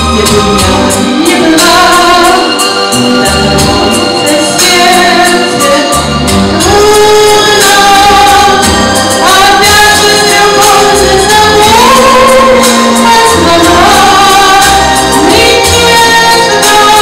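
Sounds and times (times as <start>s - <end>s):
musical accompaniment: 0.0s - 17.0s
woman singing through a microphone: 0.0s - 17.0s.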